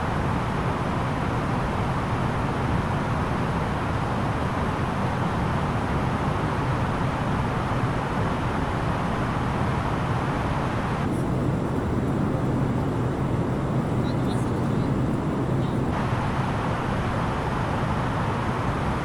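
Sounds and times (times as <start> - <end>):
cabin airflow rush: 0.0 - 19.0
low engine drone: 0.0 - 19.0.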